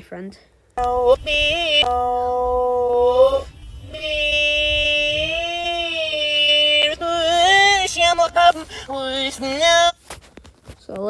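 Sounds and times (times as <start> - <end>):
reversed slowed singing voice: 0.8 - 10.0.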